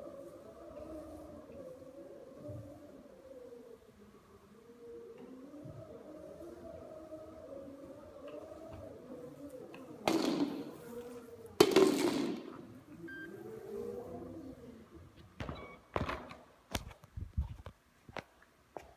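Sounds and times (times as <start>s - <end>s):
hoverboard motors whining: 0.0s - 15.4s.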